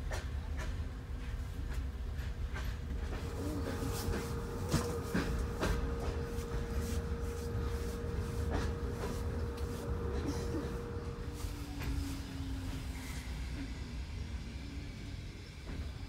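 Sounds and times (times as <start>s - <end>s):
train low rumble and hum: 0.0s - 16.0s.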